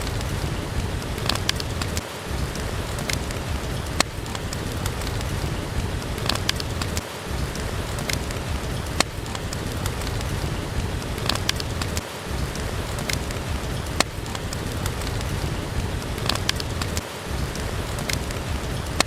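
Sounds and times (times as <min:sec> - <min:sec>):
steady rain falling: 0:00.0 - 0:19.0
wood fire crackling and popping: 0:00.0 - 0:19.0.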